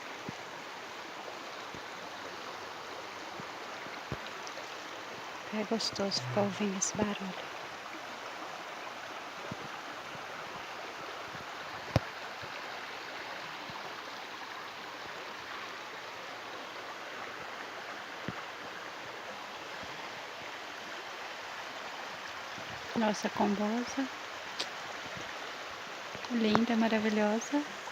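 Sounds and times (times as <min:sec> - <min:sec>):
stream water rushing: 0:00.0 - 0:27.9.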